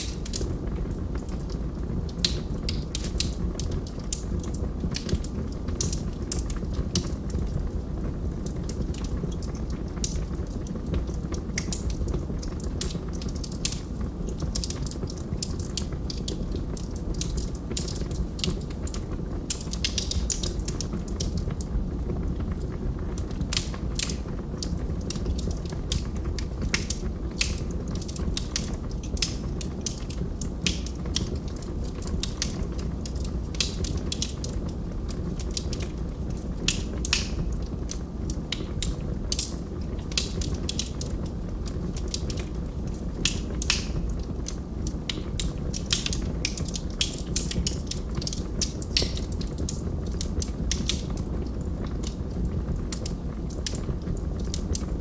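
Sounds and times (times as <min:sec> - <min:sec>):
crackles and pops of burning logs: 0:00.0 - 0:55.0
low roar of flames: 0:00.0 - 0:55.0.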